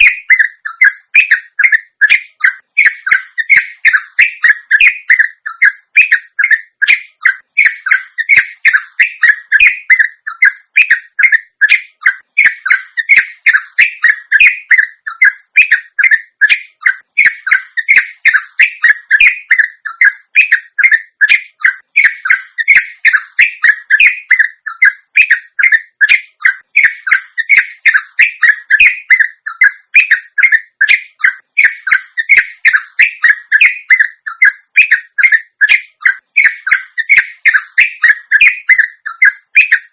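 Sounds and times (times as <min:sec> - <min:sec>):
bulbul singing rapid notes: 0:00.0 - 0:39.9.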